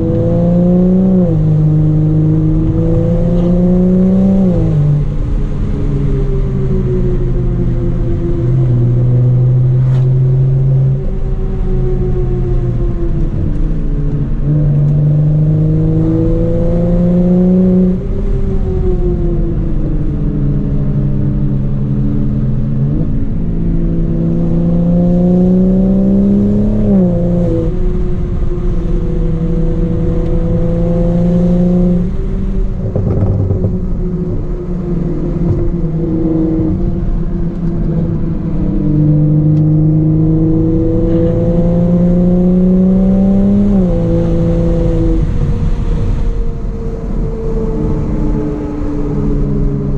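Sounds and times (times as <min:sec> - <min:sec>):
car engine revving: 0:00.0 - 0:12.5, 0:13.2 - 0:18.4, 0:21.1 - 0:49.9.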